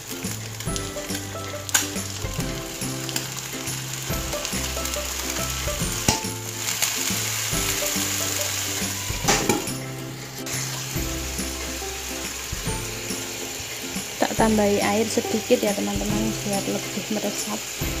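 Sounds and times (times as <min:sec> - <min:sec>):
squid sizzling in a wok: 0:00.0 - 0:18.0.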